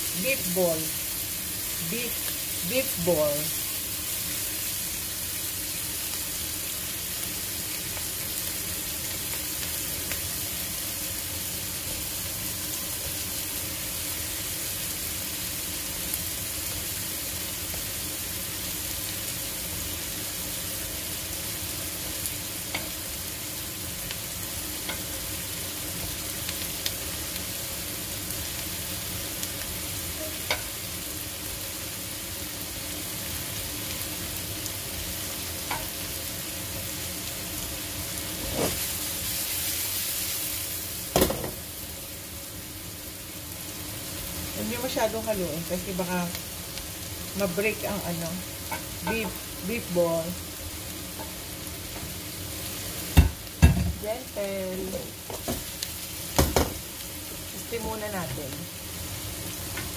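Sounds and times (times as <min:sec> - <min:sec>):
onion sizzling in a pan: 0:00.0 - 0:59.9.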